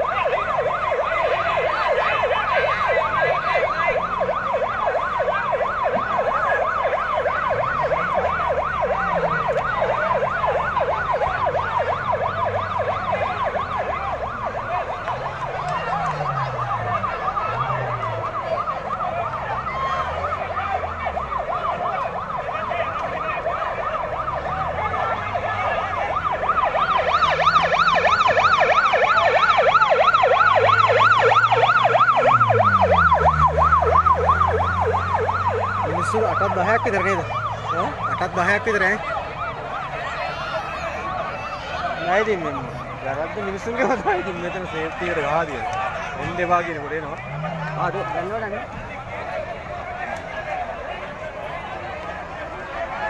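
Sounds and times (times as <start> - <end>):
ambulance siren yelping: 0.0 - 53.0.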